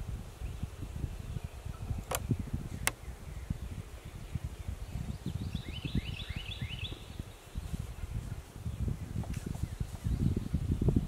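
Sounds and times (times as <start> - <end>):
songbird chirping: 0.5 - 11.0.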